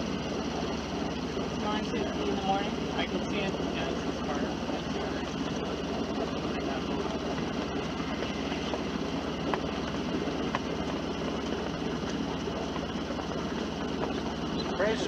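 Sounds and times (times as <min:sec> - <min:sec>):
boat engine humming: 0:00.0 - 0:15.0
wind and water noise: 0:00.0 - 0:15.0.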